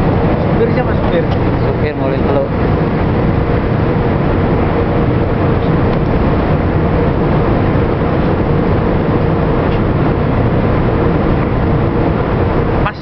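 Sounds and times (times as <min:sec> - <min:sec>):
constant hum: 0:00.0 - 0:13.0
machinery rumble: 0:00.0 - 0:13.0.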